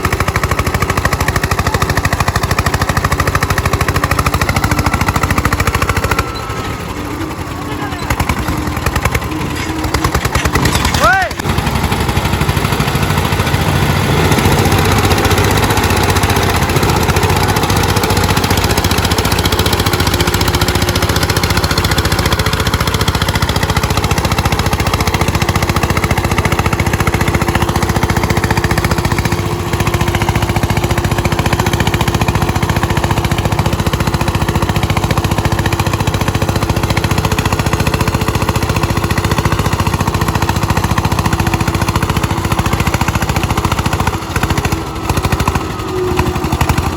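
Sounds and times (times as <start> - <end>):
tractor diesel engines pounding: 0.0 - 46.9.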